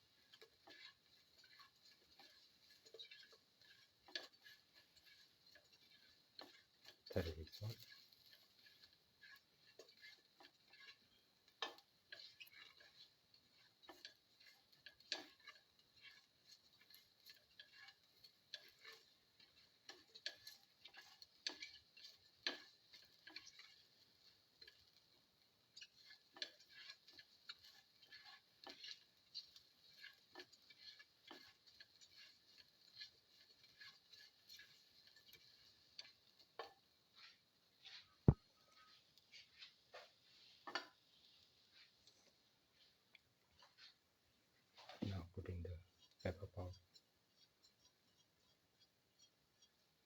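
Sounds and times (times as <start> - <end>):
shallots and garlic sauteing in oil: 0.0 - 50.0.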